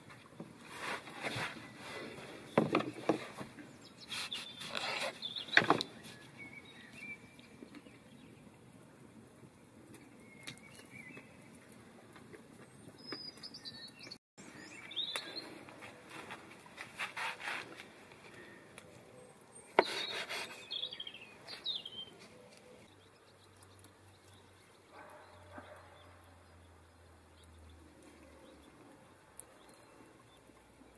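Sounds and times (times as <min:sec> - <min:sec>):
small birds chirping: 0:01.4 - 0:09.0, 0:09.8 - 0:16.1, 0:18.2 - 0:30.9.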